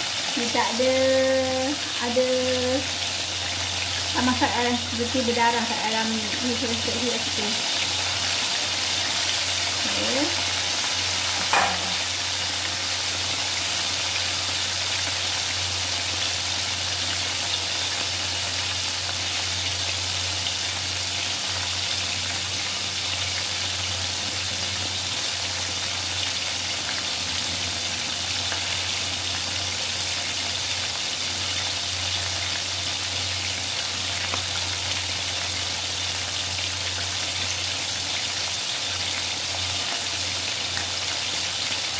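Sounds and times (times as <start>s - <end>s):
chicken deep-frying in oil: 0.0s - 41.9s.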